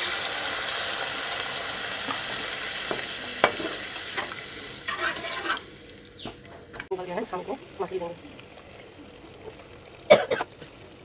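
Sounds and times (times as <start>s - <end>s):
gravy sizzling in a pan: 0.0s - 11.0s.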